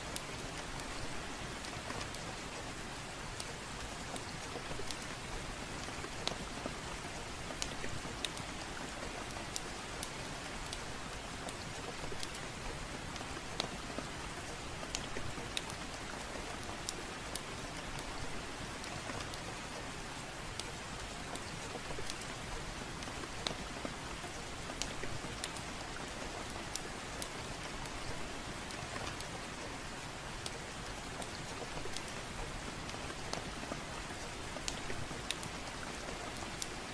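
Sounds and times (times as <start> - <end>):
soft rain: 0.0 - 36.9
wood fire crackling: 0.1 - 36.9.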